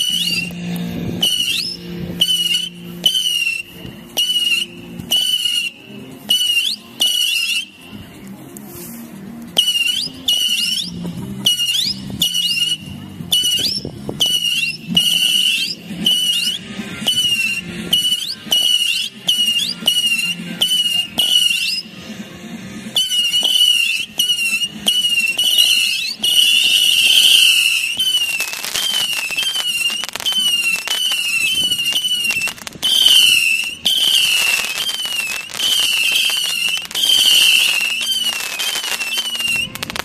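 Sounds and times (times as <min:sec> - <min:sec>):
whistling firework missiles: 0:00.0 - 0:07.8, 0:09.6 - 0:22.2, 0:22.8 - 0:40.0.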